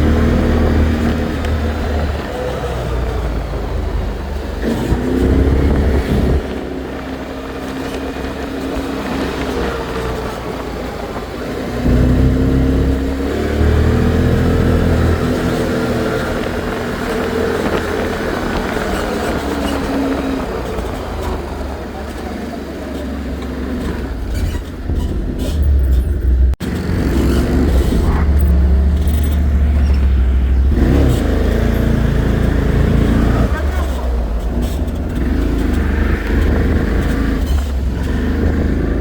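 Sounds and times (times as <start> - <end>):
atv engines rumbling: 0.0 - 39.0.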